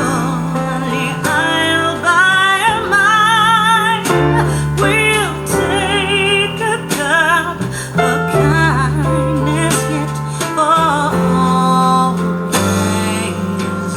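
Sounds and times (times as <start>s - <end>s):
person singing with vibrato: 0.0s - 13.9s
steady bass line: 0.0s - 13.9s.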